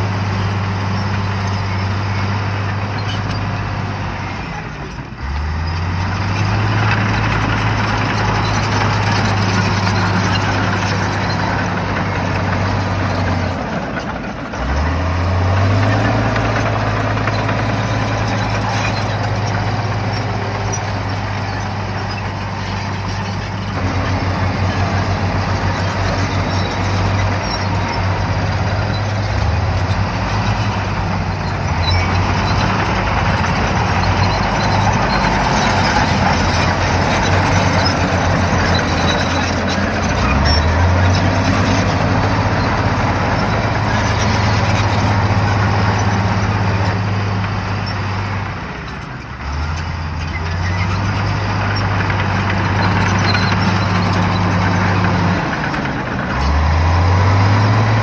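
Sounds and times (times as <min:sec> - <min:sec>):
bulldozer diesel engine revving: 0:00.0 - 0:58.0
engine clatter: 0:00.0 - 0:58.0.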